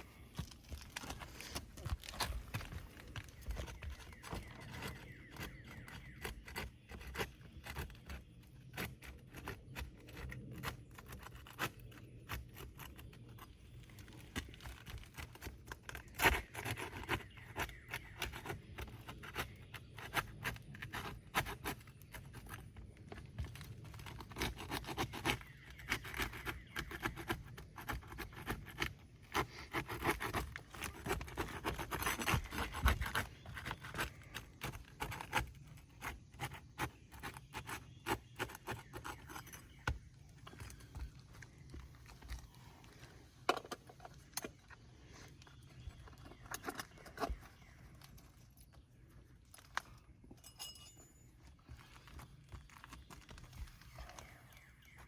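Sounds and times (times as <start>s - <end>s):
scraping and rubbing on roof shingle: 0.0s - 50.2s, 51.3s - 55.0s.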